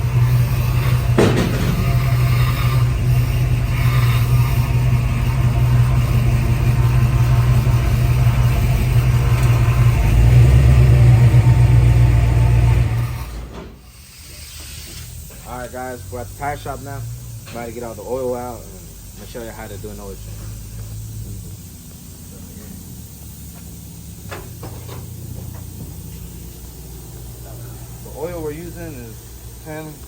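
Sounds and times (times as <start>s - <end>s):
pickup truck engine droning: 0.0s - 13.8s, 14.7s - 30.0s.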